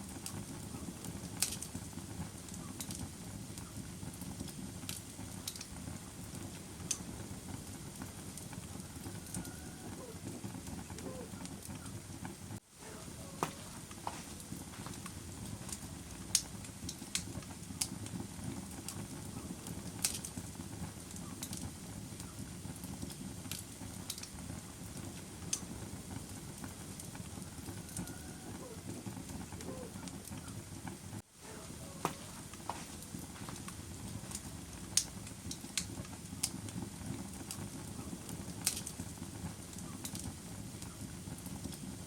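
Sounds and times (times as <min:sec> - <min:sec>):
fire burning with low rush: 0:00.0 - 0:42.0
fire crackles and pops: 0:00.0 - 0:42.0.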